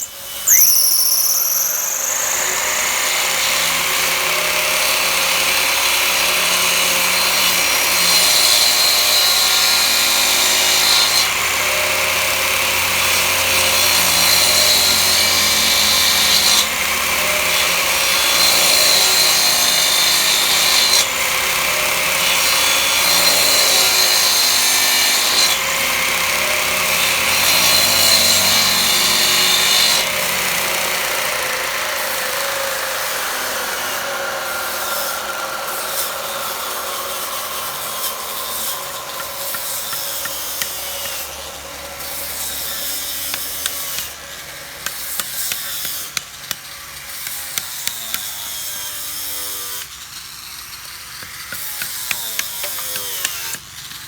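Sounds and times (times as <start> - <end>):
power tool working on wood: 0.0 - 54.0.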